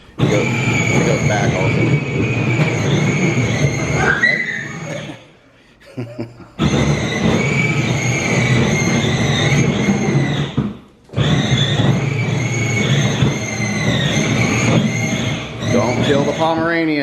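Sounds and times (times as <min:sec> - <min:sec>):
electric motor whine: 0:00.2 - 0:05.2, 0:06.6 - 0:17.0.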